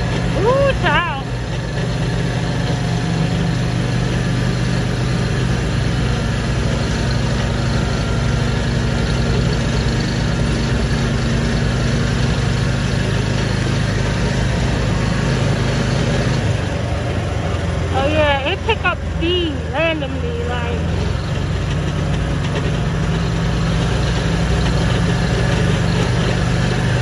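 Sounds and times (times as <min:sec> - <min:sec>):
buggy engine running: 0:00.0 - 0:27.0.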